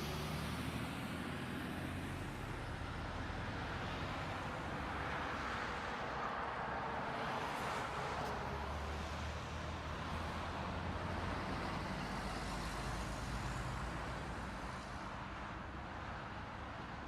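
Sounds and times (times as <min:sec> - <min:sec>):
road and engine noise: 0:00.0 - 0:17.0.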